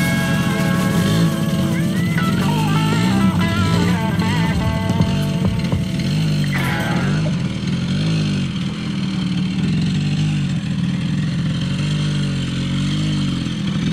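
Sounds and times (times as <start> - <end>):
single-cylinder engine running: 0.0 - 13.9.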